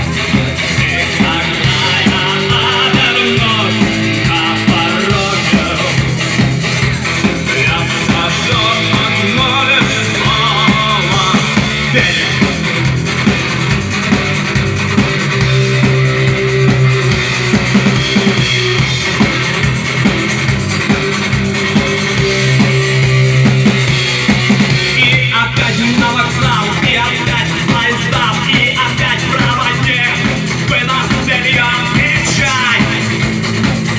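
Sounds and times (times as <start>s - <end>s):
drum kit beat: 0.0s - 33.9s
rock band playing live: 0.0s - 33.9s.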